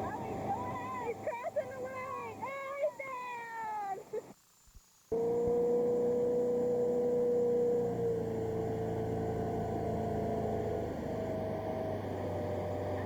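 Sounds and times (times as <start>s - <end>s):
motorboat engine whining: 0.0s - 2.6s, 5.1s - 13.0s.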